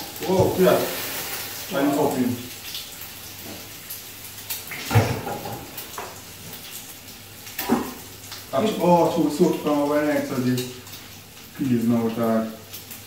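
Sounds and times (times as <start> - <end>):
food sizzling in pans: 0.0 - 13.0.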